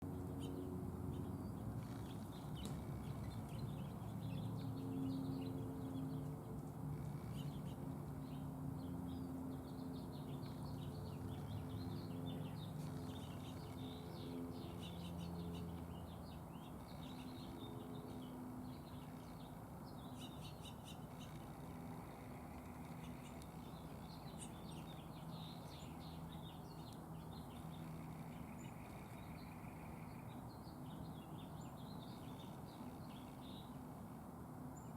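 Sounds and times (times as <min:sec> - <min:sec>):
low steady hum: 0:00.0 - 0:34.9
small birds chirping: 0:00.0 - 0:34.9.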